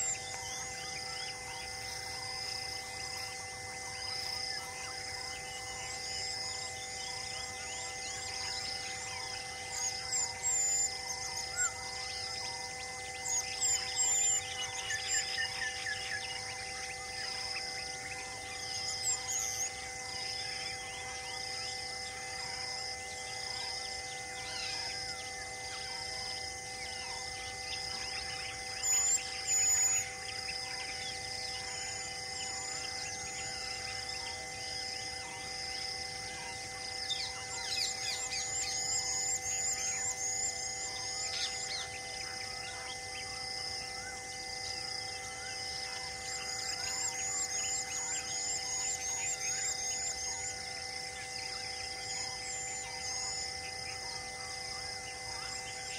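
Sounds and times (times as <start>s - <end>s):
birds chirping: 0.0s - 55.9s
insects pulsing: 0.0s - 55.9s
steady humming tones: 0.0s - 55.9s.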